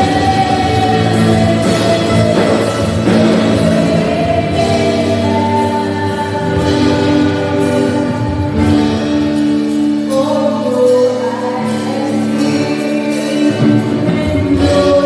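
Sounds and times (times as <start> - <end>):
group singing worship music: 0.0 - 15.0.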